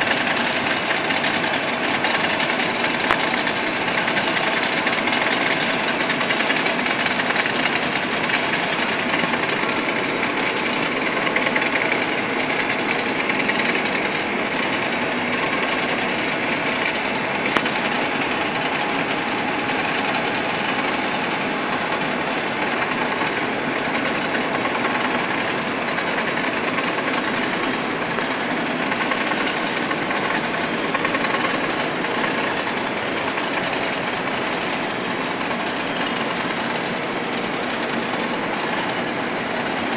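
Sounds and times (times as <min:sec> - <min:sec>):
industrial machine running: 0:00.0 - 0:39.9.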